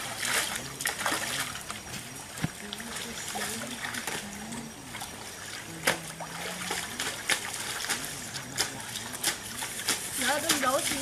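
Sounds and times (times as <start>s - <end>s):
water trickling over rocks: 0.0s - 11.0s.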